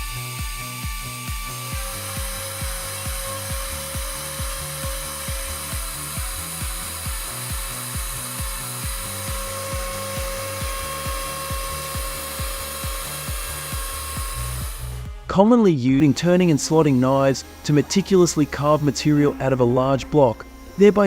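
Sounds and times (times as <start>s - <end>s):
woodworking machine cutting wood: 0.0s - 15.4s, 16.0s - 21.0s
background music with steady beat: 0.0s - 21.0s.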